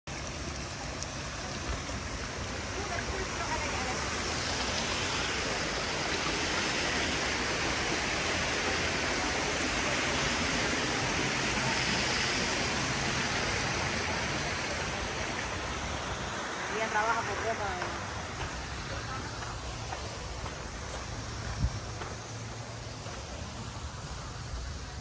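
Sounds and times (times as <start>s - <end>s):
fountain water splashing: 0.0s - 25.0s.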